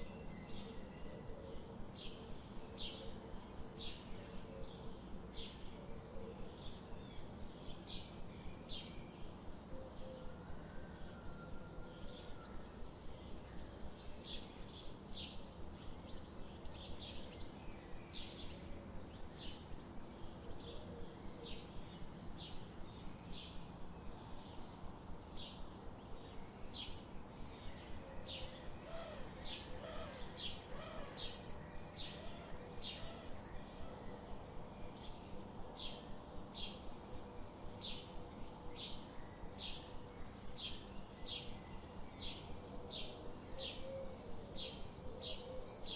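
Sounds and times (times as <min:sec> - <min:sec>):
low background noise: 0:00.0 - 0:45.9.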